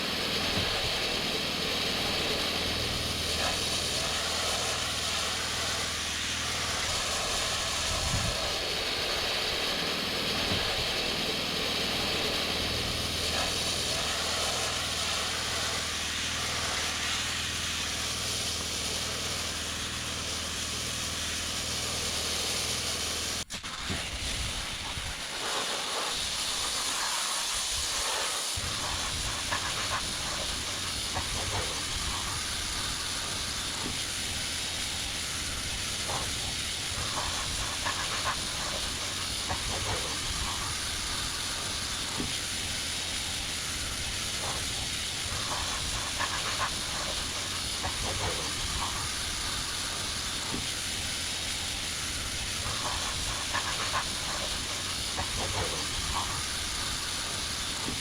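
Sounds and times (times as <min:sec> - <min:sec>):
sandblaster hissing: 0:00.0 - 0:58.0.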